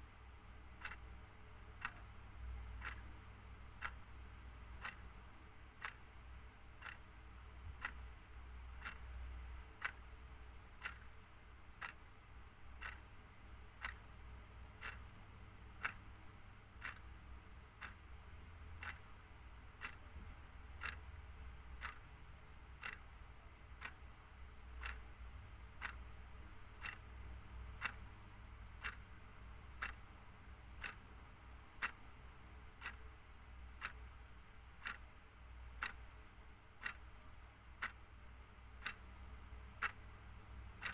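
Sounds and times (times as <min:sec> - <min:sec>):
faint low hum: 0:00.0 - 0:40.9
clock ticking: 0:00.5 - 0:40.9.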